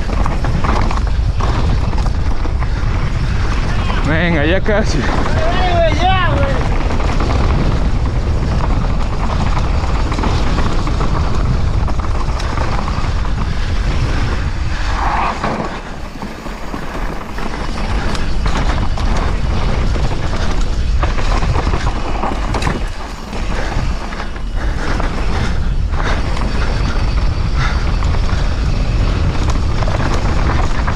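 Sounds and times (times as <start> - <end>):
bike rattling and clattering: 0.0 - 30.9
wind buffeting microphone: 0.0 - 30.9.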